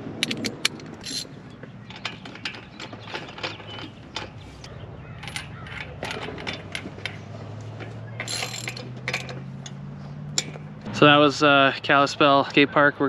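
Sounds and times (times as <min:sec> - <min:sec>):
hand tool clicking and ratcheting: 0:00.2 - 0:10.7.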